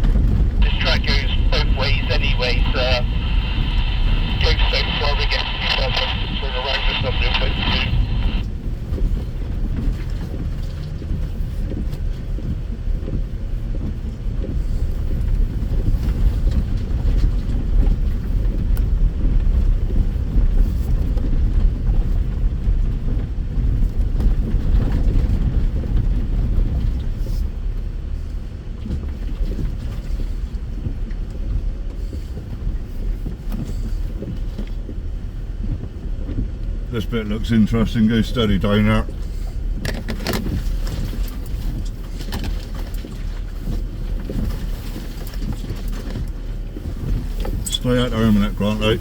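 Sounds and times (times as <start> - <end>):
engine and drivetrain rumble: 0.0 - 49.0.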